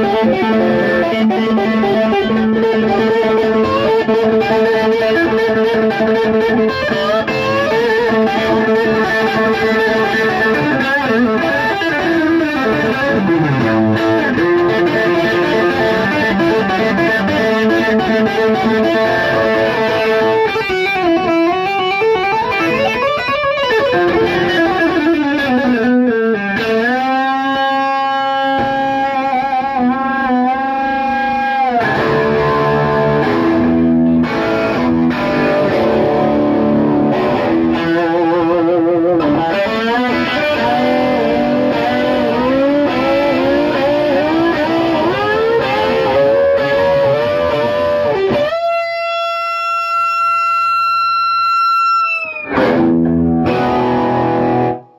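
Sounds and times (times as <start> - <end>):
electric guitar lead: 0.0 - 54.9.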